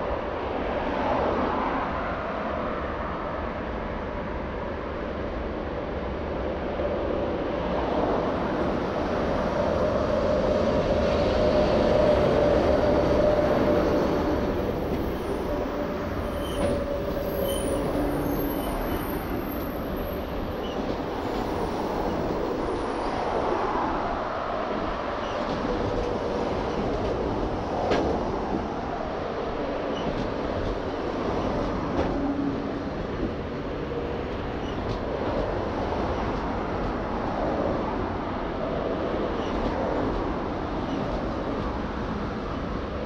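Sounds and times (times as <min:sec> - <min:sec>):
train wheels rumbling on rails: 0:04.2 - 0:43.0
electric locomotive passing: 0:06.0 - 0:43.0.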